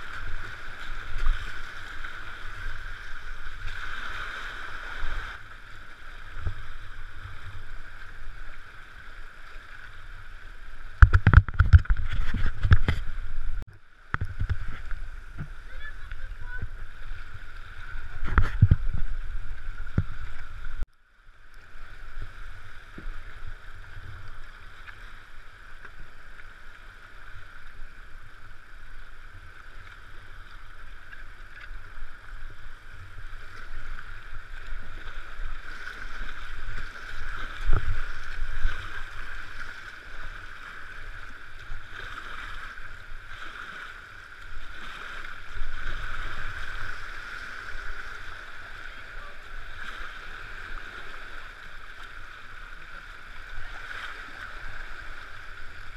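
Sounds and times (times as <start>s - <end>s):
paddle splashes: 0.0s - 20.8s, 21.6s - 55.9s.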